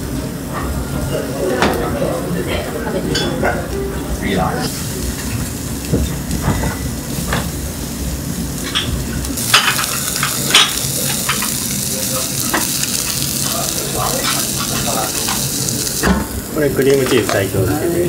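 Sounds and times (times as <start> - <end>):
skewers sizzling on charcoal grill: 0.0 - 18.0.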